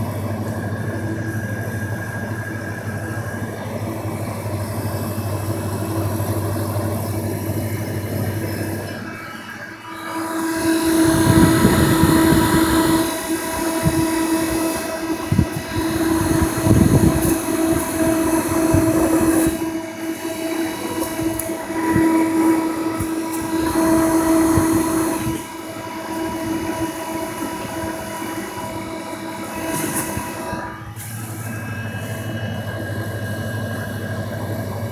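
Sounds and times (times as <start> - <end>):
vending machine compressor hum: 0.0 - 34.9.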